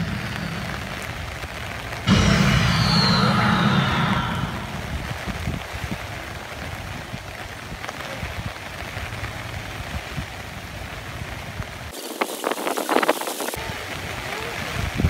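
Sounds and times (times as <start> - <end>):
rain pattering on umbrellas: 0.0 - 2.1, 4.9 - 15.0.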